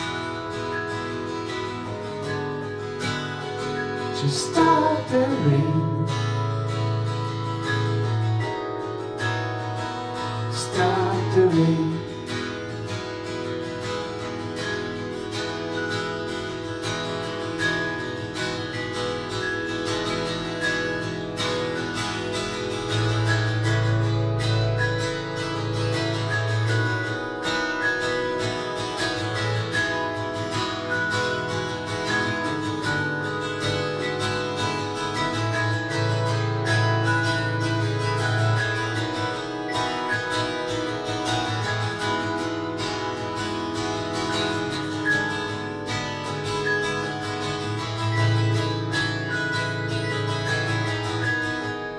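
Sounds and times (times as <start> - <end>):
guitar: 0.0 - 51.9
keyboard: 0.0 - 51.9.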